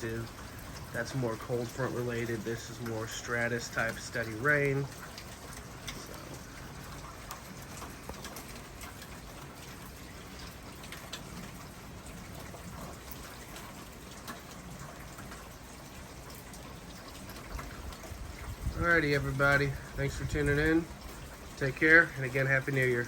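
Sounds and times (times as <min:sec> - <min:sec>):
raindrop taps: 0:00.0 - 0:23.0
steady rain hiss: 0:00.0 - 0:23.0.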